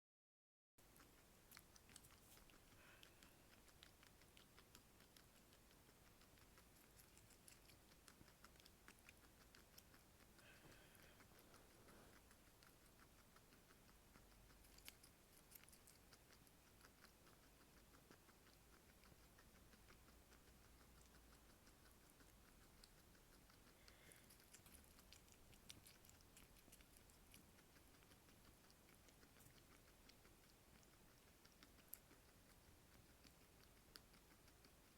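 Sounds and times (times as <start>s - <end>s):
guinea pig chewing: 0.8s - 34.9s.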